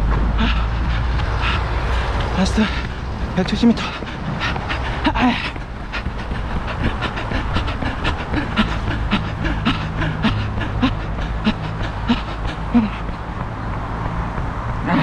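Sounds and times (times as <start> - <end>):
footsteps slapping pavement: 0.0 - 15.0
steady low rumble: 0.0 - 15.0.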